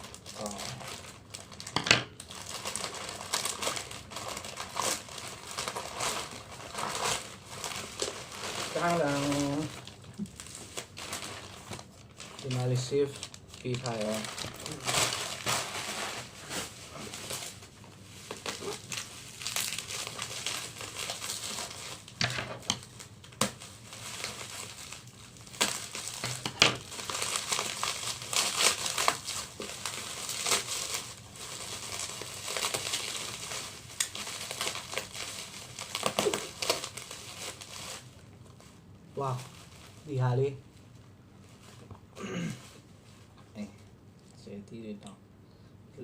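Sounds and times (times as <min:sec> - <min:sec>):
plastic packaging crinkling: 0:00.0 - 0:40.6.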